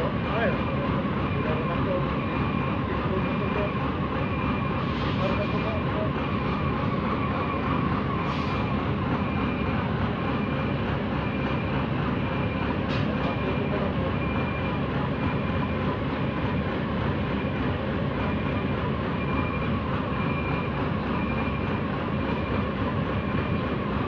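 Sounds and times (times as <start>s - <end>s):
crane diesel engine running: 0.0s - 24.0s.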